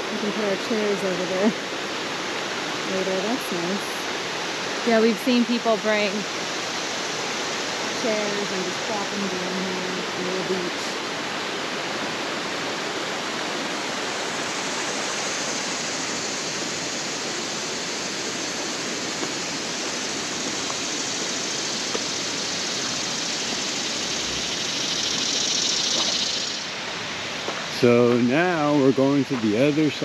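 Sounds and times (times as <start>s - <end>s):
river water rushing: 0.0s - 28.4s.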